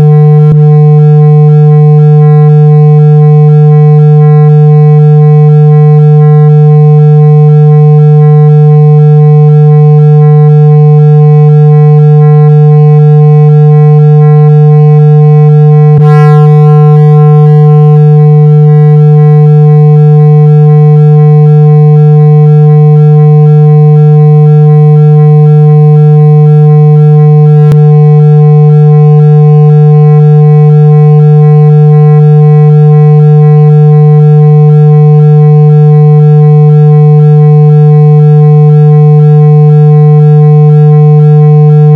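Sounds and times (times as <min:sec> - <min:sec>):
steady low test tone: 0:00.0 - 0:41.9.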